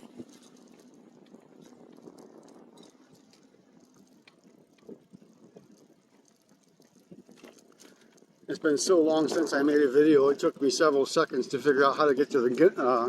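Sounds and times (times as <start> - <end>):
bike tyre and frame noise: 0.0 - 13.0
light clicks and rattles: 0.0 - 13.0.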